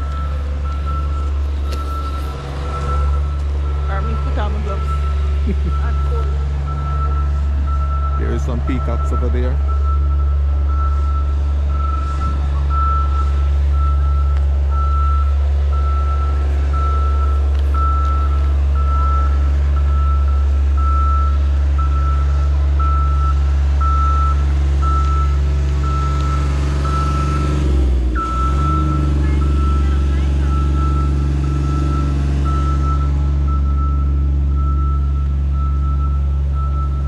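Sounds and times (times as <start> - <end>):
loud low rumble: 0.0 - 37.0
reversing alarm beeping: 0.0 - 37.0.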